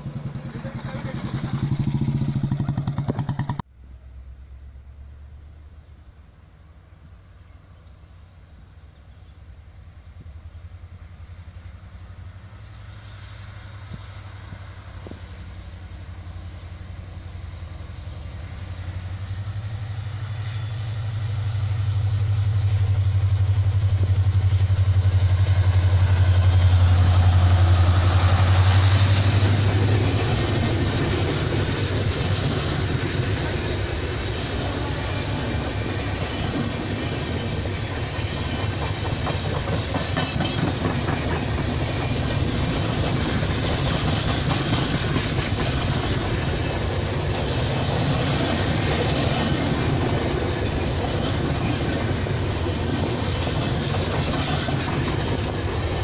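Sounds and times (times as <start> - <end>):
train wheels rushing on rails: 0.0 - 3.7, 6.9 - 56.0
diesel locomotive engine droning: 0.0 - 56.0.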